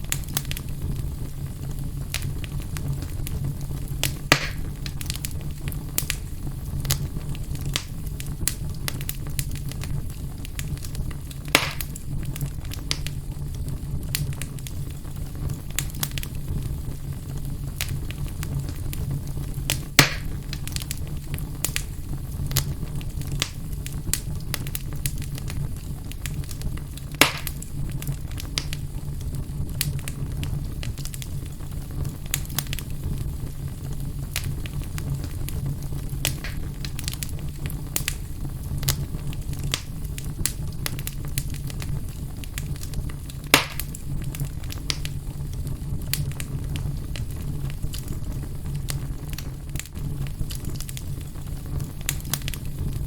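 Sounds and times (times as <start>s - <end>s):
fire crackling: 0.0s - 53.0s
fire popping: 0.0s - 53.0s
fire rumbling in fireplace: 0.0s - 53.0s.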